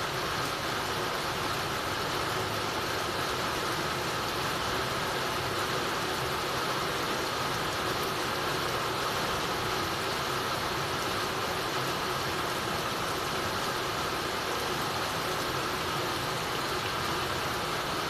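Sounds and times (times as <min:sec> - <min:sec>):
heavy rain on a tiled roof: 0:00.0 - 0:18.0.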